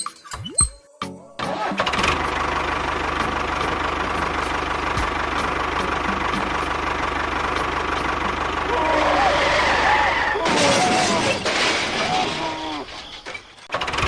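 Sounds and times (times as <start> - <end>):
engine chugging: 1.5 - 14.0.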